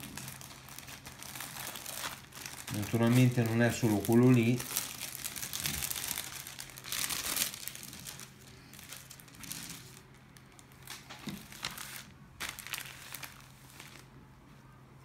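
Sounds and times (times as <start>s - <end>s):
plastic bag crinkling: 0.0s - 14.2s
faint low hum: 0.0s - 15.0s.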